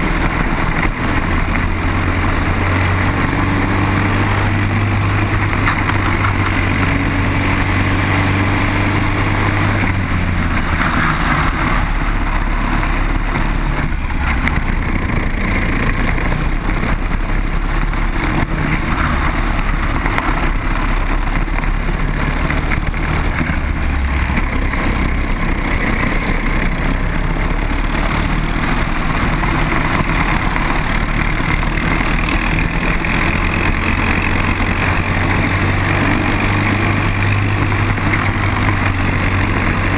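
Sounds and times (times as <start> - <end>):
kart engine running hard: 0.0 - 39.9
other kart engines: 0.0 - 39.9.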